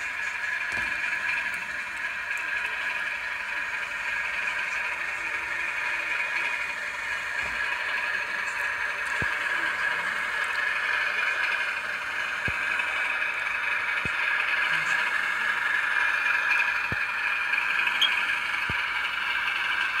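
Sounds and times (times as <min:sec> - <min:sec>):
model train buzzing hum: 0:00.0 - 0:20.0.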